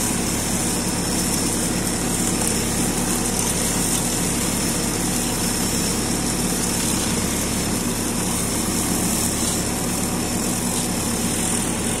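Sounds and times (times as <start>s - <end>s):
mower cutting grass: 0.0s - 12.0s
tractor engine running: 0.0s - 12.0s.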